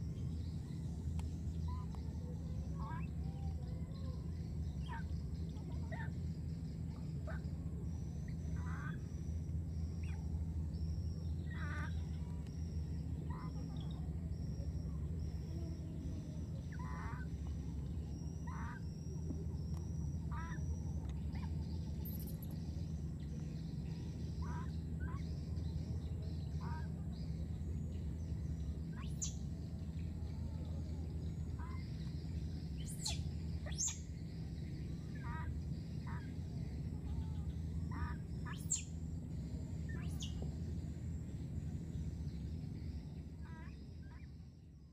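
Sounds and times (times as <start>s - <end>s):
bird chirps: 0.0s - 44.9s
steady low rumble: 0.0s - 44.9s.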